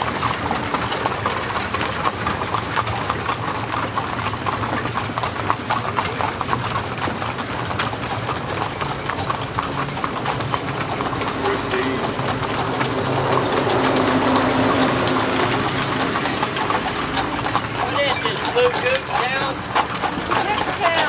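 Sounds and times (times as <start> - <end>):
horse hooves clip-clopping on road: 0.0 - 21.0.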